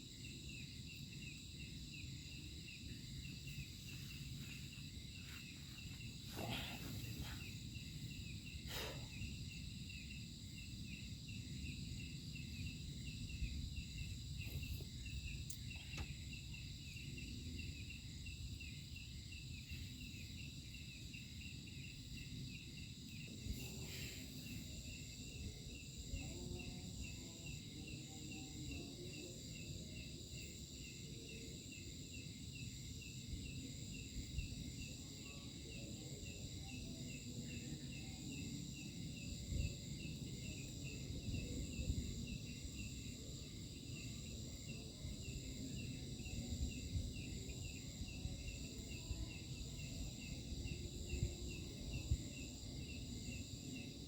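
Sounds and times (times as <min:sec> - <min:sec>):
crickets chirping: 0:00.0 - 0:54.0
high-pitched insect drone: 0:00.0 - 0:54.0.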